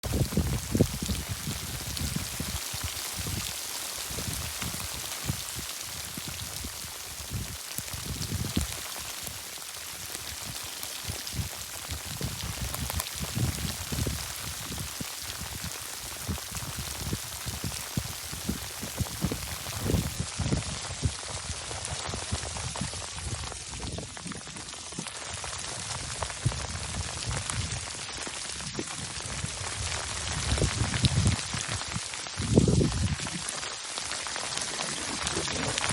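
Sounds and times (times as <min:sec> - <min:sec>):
hail and rain pelting down: 0:00.0 - 0:35.9.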